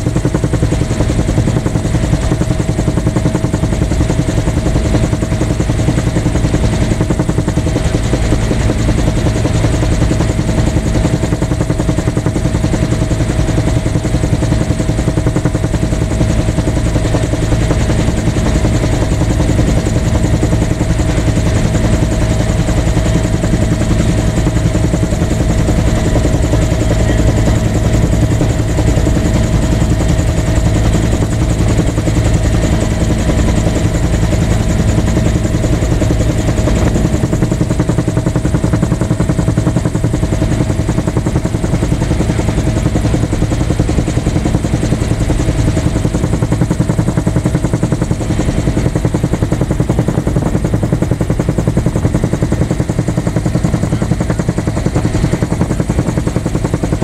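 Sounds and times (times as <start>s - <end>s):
helicopter engine hum: 0.0s - 57.0s
helicopter rotor beating: 0.0s - 57.0s.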